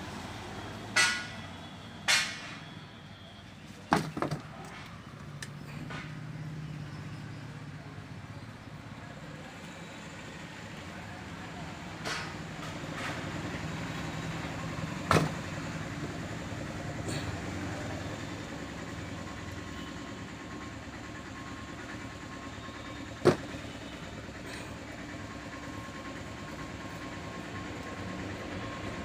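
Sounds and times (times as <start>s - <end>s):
low engine-like rumble: 0.0s - 29.0s.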